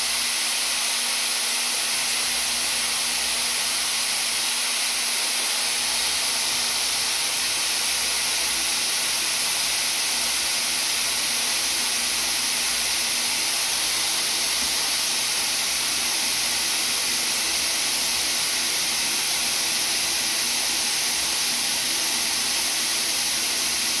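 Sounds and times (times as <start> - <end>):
hair styler blowing air: 0.0 - 24.0.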